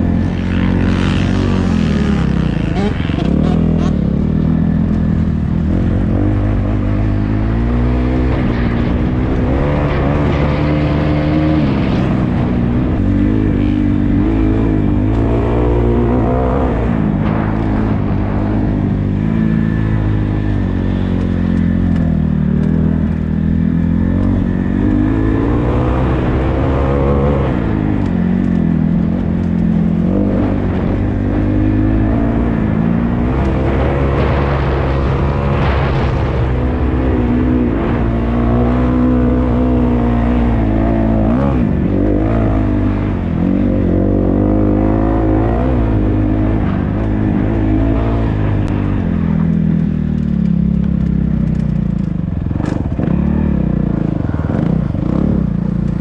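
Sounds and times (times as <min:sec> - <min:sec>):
dirt bike engine revving: 0:00.0 - 0:51.7.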